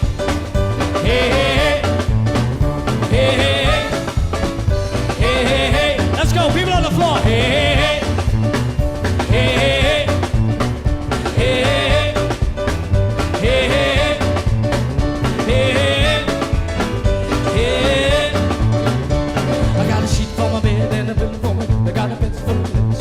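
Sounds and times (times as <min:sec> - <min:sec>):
swing band instrumental: 0:00.0 - 0:23.0.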